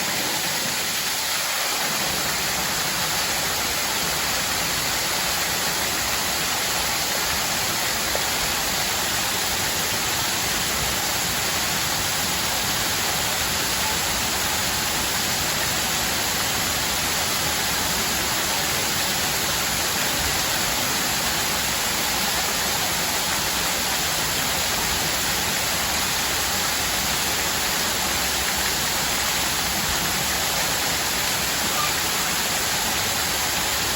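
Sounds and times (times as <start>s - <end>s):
water fountain splashing: 0.0s - 33.9s.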